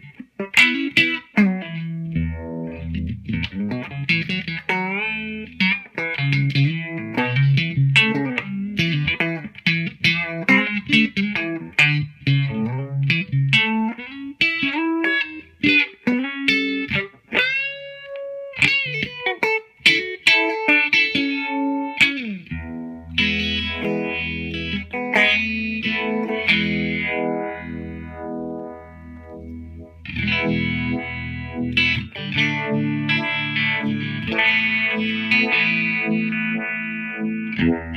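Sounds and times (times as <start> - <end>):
electric guitar with pulsing vibe: 0.0 - 37.9.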